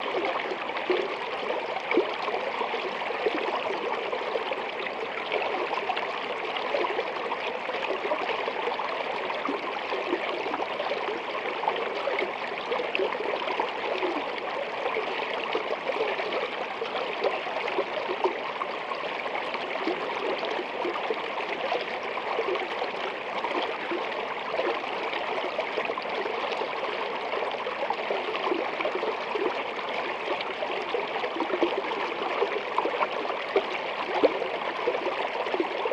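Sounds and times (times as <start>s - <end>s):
running water: 0.0s - 35.9s.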